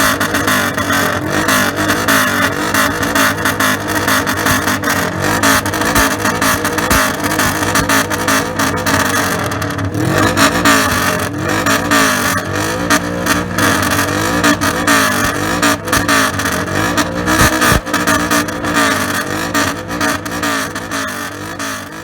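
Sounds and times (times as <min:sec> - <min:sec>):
engine exhaust throttle blips: 0:00.0 - 0:22.0
engine running: 0:00.0 - 0:22.0.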